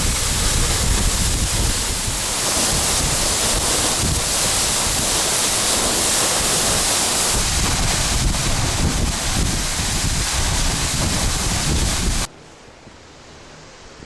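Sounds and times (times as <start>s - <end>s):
waterfall rushing: 0.0s - 12.3s
wind buffeting microphone: 0.0s - 12.3s.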